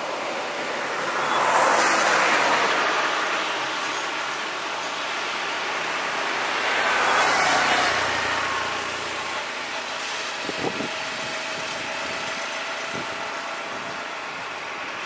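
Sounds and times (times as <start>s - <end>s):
passing vehicle: 0.0s - 15.0s
road traffic idling: 0.0s - 15.0s.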